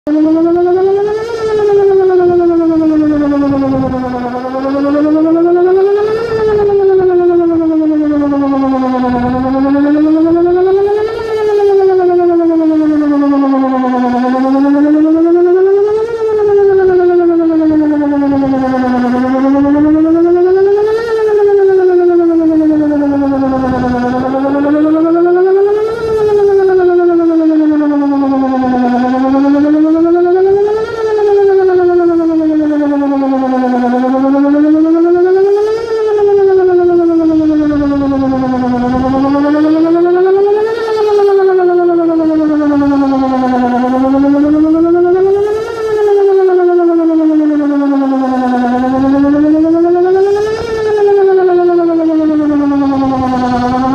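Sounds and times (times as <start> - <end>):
wailing warning siren: 0.0 - 53.9.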